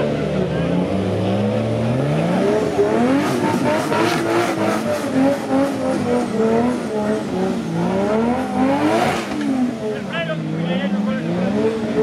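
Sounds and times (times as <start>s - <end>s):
engine revving hard: 0.2s - 10.0s, 10.8s - 12.0s.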